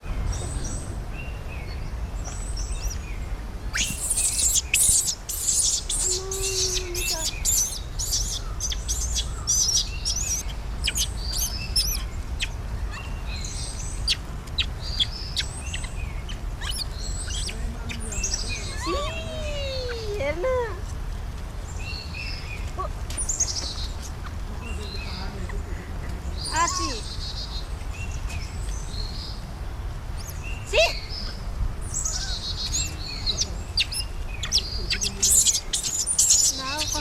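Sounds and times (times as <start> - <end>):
small birds chirping: 0.0 - 37.0
steady low rumble: 0.0 - 37.0.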